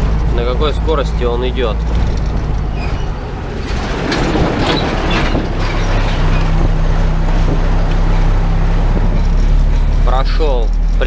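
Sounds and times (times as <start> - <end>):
passing truck rush: 0.0 - 11.0
truck engine drone: 0.0 - 11.0.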